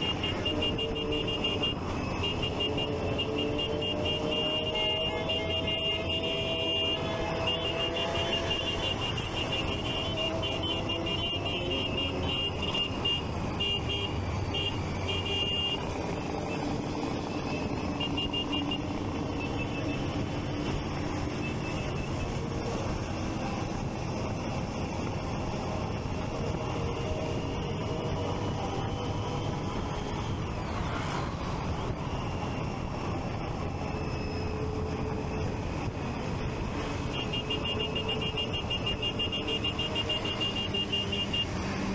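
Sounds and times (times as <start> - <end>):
motorcycle engines: 0.0 - 41.9.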